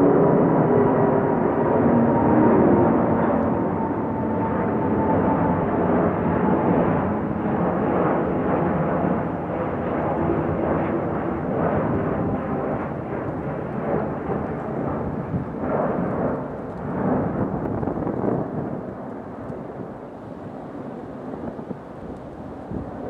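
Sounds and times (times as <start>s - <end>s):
jet engine rumble with whine: 0.0s - 23.0s.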